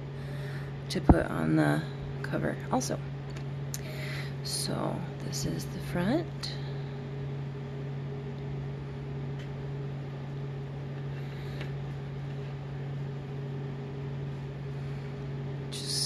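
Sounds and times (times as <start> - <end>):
appliance or fan hum: 0.0 - 16.0.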